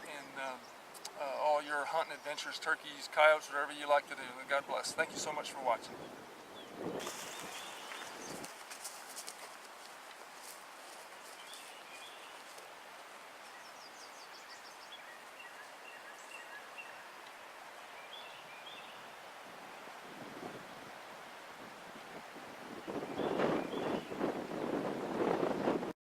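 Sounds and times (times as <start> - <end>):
songbirds calling: 0.0 - 21.4, 22.7 - 25.7
woodland ambience: 0.0 - 25.7.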